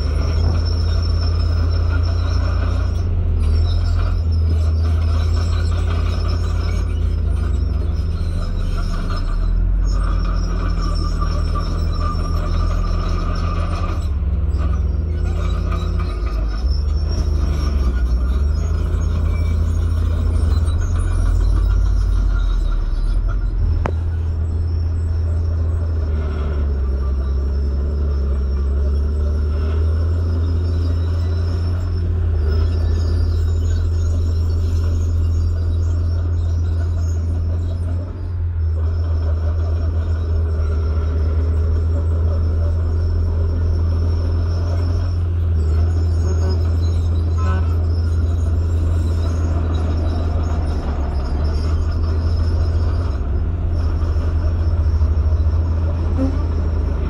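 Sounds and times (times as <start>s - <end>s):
diesel engines rumbling: 0.0s - 57.0s.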